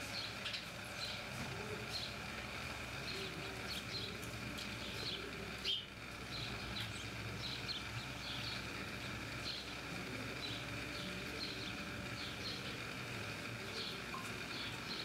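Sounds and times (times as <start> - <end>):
faint electronic hum: 0.0 - 15.0
small birds chirping: 0.0 - 15.0.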